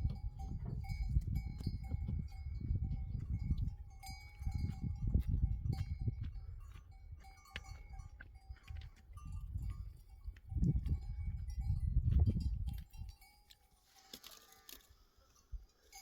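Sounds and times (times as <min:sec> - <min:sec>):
animal bells clinking: 0:00.0 - 0:16.0.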